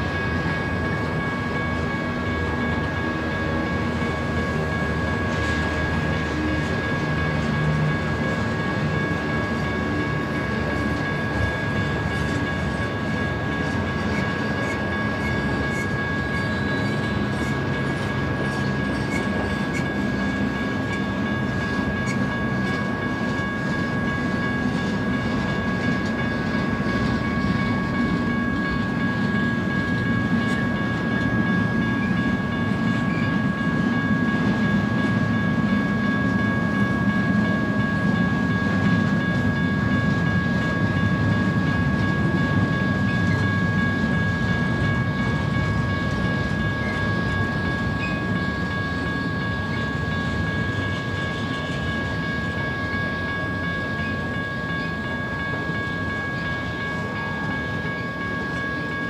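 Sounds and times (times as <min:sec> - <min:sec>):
freight train wheels rumbling: 0:00.0 - 0:59.0
high ringing tones: 0:00.0 - 0:59.0.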